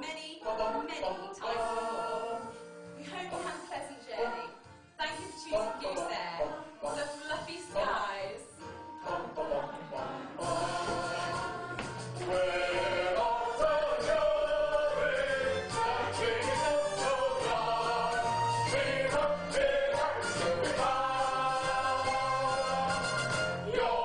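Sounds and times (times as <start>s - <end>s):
group of voices singing: 0.0s - 24.0s
instrumental accompaniment: 0.4s - 24.0s.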